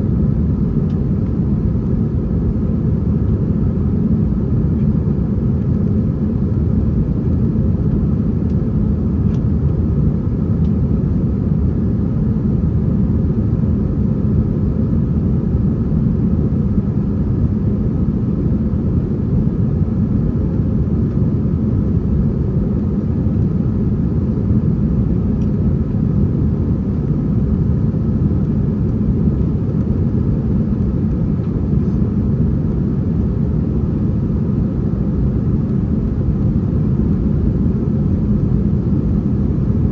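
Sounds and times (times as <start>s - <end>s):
faint steady hum: 0.0s - 39.9s
jet engine cabin rumble: 0.0s - 39.9s.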